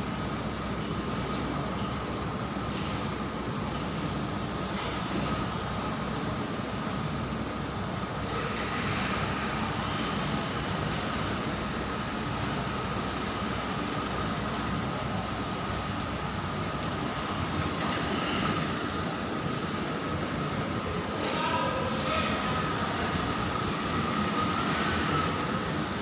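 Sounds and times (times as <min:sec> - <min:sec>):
thin steady whine: 0:00.0 - 0:26.0.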